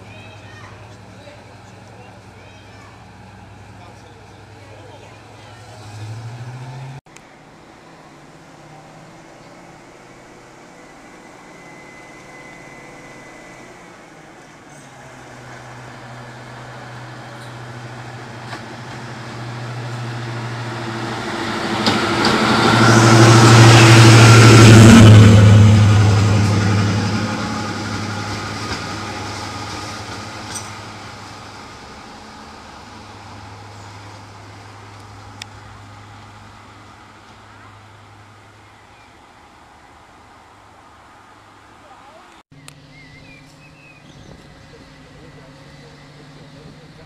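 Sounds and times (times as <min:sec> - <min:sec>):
diesel locomotive passing: 0:00.0 - 0:47.0.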